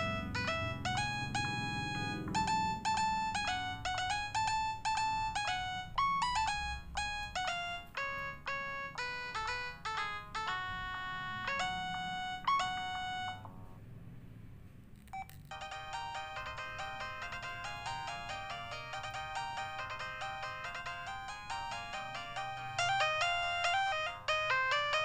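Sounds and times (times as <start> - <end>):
phone ringtone melody: 0.0 - 13.7, 15.1 - 25.0.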